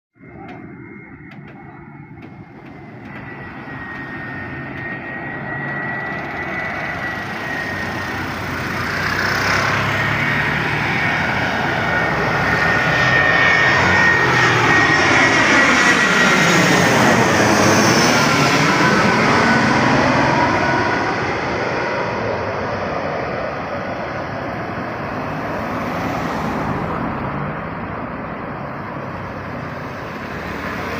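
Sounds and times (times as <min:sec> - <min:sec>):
jet airliner passing close by: 0:00.2 - 0:30.9.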